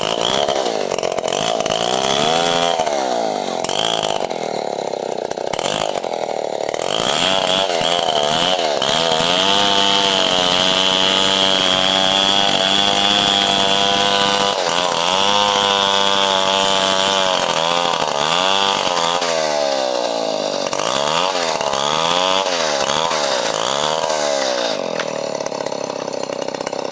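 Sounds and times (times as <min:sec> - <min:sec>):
chainsaw idling and revving: 0:00.0 - 0:26.9.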